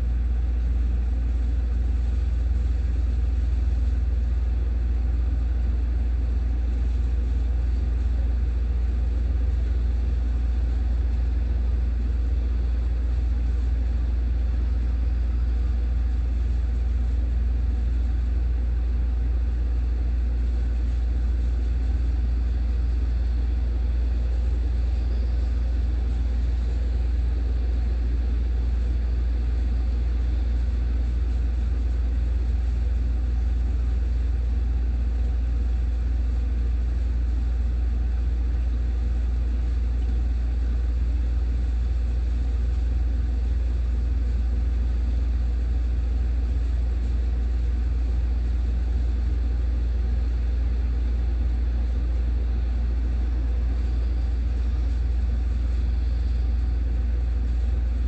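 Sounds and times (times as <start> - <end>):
steady low rumble: 0.0 - 37.2, 39.3 - 58.0.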